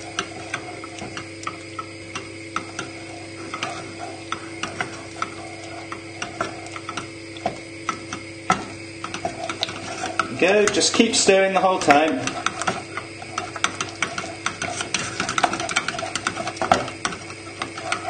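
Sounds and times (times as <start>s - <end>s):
steady hum: 0.0s - 18.0s
wooden spoon scraping a saucepan: 0.0s - 18.0s.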